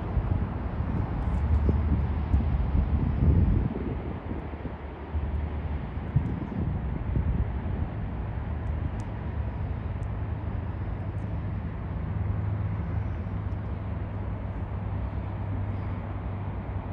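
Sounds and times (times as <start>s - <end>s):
distant jet aircraft: 0.0s - 16.9s
traffic: 0.0s - 16.9s.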